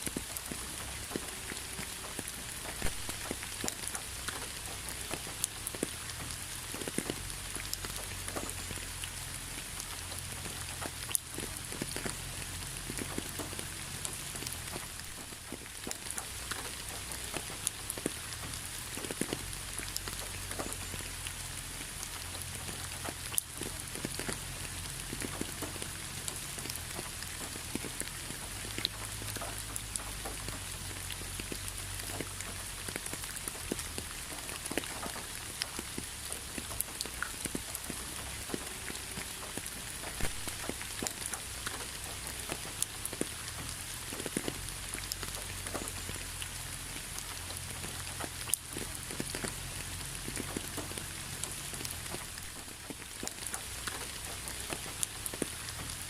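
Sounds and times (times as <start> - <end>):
raindrops ticking on a surface: 0.0 - 56.0
steady rain hiss: 0.0 - 56.0.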